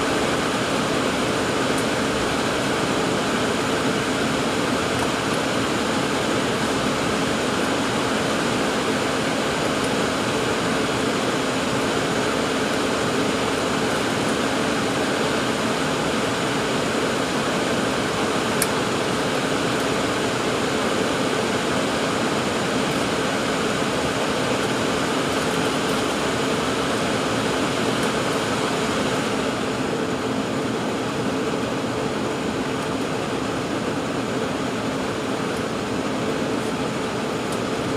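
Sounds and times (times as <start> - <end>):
airliner cabin noise: 0.0 - 37.9.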